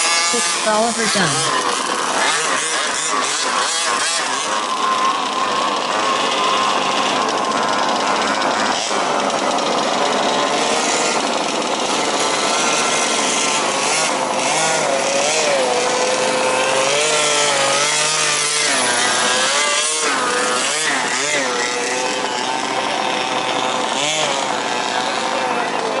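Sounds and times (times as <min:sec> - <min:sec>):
small two-stroke engines revving: 0:00.0 - 0:26.0.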